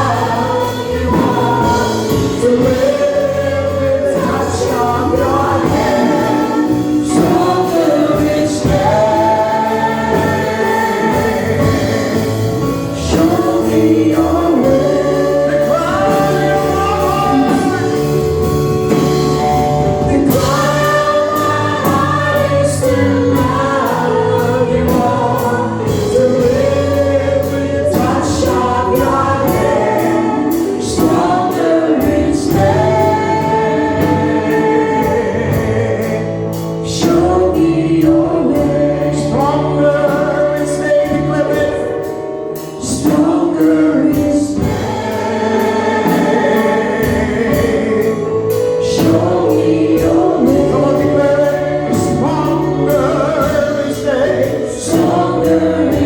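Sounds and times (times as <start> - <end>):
band with steady beat: 0.0 - 56.0
choir singing gospel song: 0.0 - 56.0.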